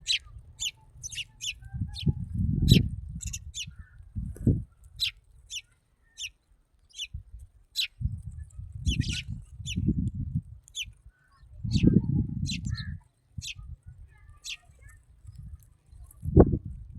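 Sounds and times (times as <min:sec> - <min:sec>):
small birds chirping: 0:00.0 - 0:16.3.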